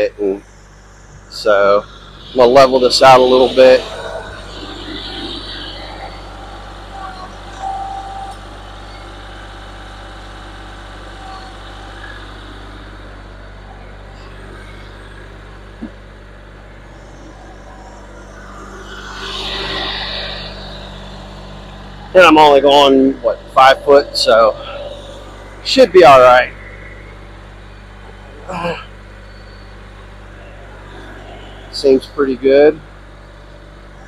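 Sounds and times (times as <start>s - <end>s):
diesel tractor running: 0.0s - 34.0s.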